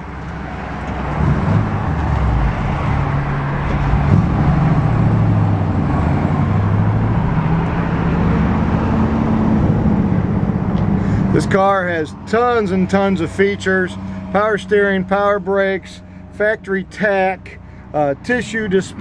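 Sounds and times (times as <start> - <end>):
car engine under load: 0.0 - 19.0
wind and road noise: 0.0 - 19.0.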